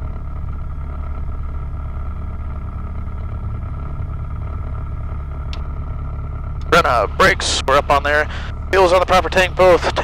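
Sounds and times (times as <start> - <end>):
propeller plane engine idling: 0.0 - 10.0.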